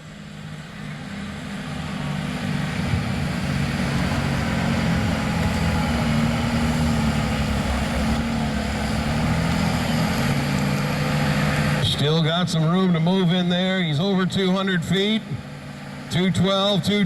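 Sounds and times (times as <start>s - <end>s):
tractor diesel engine at full power: 0.0s - 17.0s.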